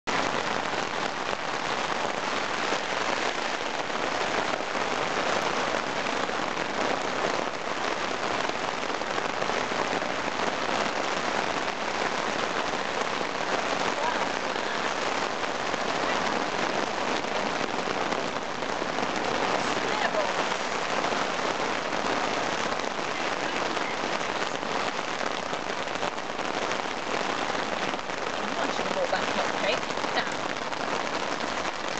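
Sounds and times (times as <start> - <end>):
rain on tent fabric: 0.0 - 31.9.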